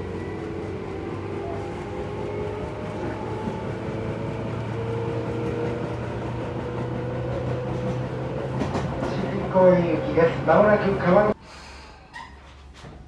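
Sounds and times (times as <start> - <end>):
train wheels on track: 0.0 - 11.4.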